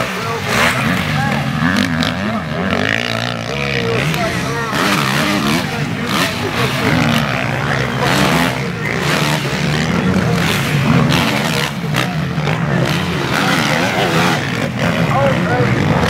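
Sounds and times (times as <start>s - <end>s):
motocross bikes revving past: 0.0s - 16.0s.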